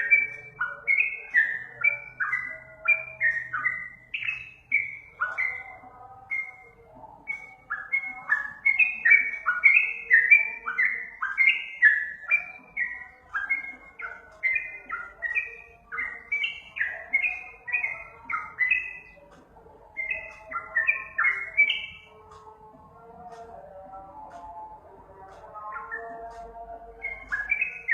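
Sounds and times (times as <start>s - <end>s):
bird song whistled notes: 0.0s - 22.4s, 24.8s - 27.9s.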